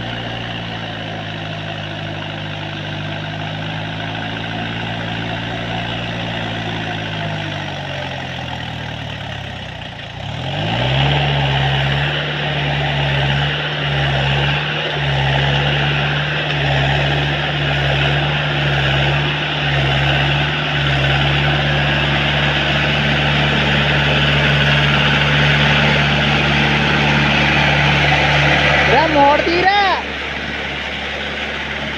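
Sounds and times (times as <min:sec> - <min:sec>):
tractor diesel engine revving: 0:00.0 - 0:31.9.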